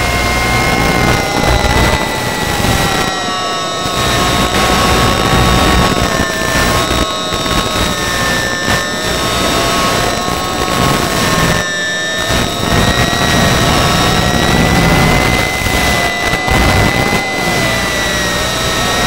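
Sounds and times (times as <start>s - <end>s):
electric motor and propeller whining: 0.0s - 19.0s.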